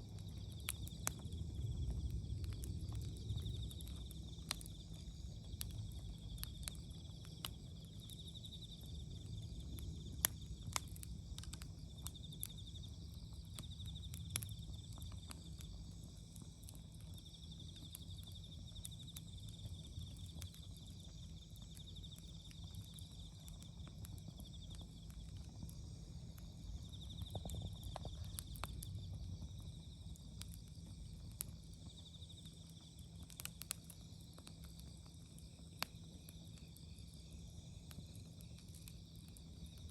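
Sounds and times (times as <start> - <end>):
insects chirping: 0.0 - 39.9
wood fire crackling and popping: 0.0 - 39.9.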